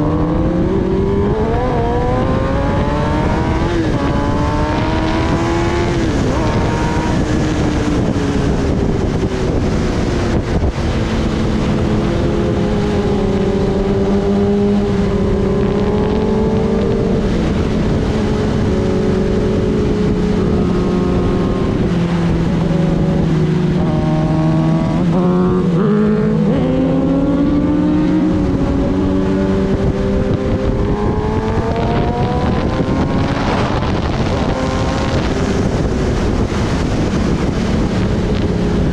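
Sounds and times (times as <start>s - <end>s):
motorcycle engine revving: 0.0s - 38.9s
wind rushing over microphone: 0.0s - 38.9s.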